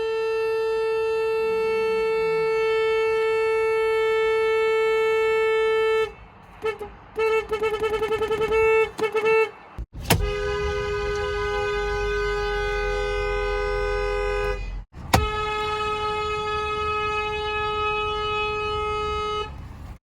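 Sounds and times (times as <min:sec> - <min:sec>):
two-note car horn: 0:00.0 - 0:09.5, 0:10.1 - 0:19.6
car horn honking: 0:00.0 - 0:19.8.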